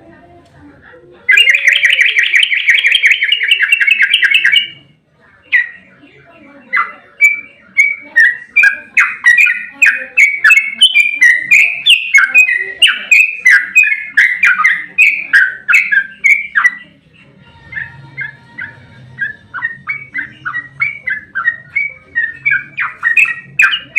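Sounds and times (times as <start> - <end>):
bird singing chirping notes: 1.3 - 4.9, 6.6 - 23.9.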